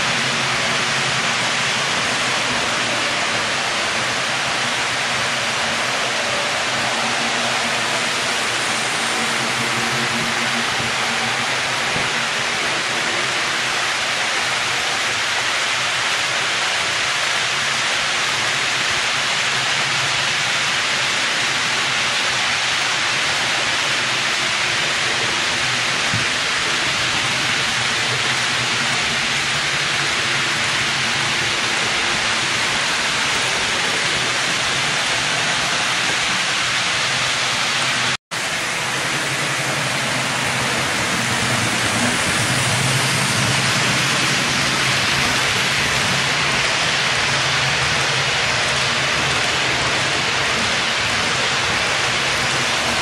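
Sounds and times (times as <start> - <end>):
model train wheels rumbling on rails: 0.0 - 53.0.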